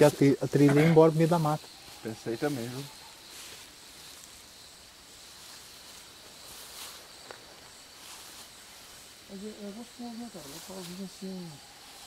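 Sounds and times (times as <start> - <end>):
high insect drone: 0.0 - 12.0
rustles in leaf litter: 1.1 - 12.0.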